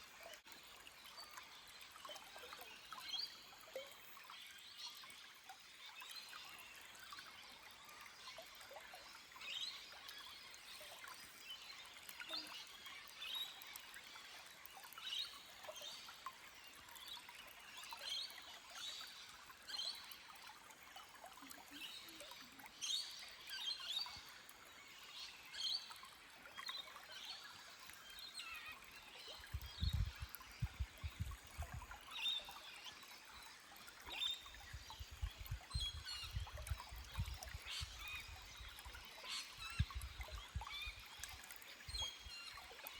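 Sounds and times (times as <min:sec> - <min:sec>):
trickling stream: 0:00.0 - 0:42.9.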